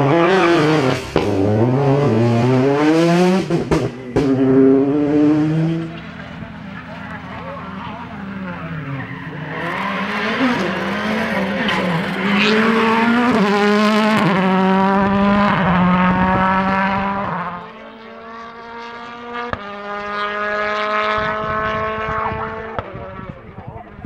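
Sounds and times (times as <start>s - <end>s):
distant rally car engine: 0.0s - 24.0s
rally car engine at full throttle: 0.0s - 24.0s.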